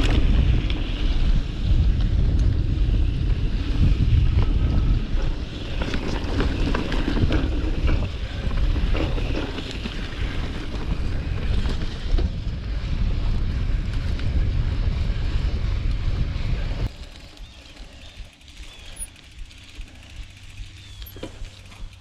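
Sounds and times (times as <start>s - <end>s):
tyres crackling on gravel: 0.0s - 22.0s
wind buffeting microphone: 0.0s - 22.0s.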